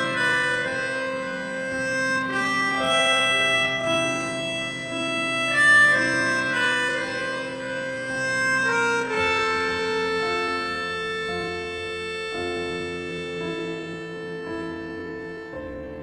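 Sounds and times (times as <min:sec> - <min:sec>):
melody of held notes: 0:00.0 - 0:16.0.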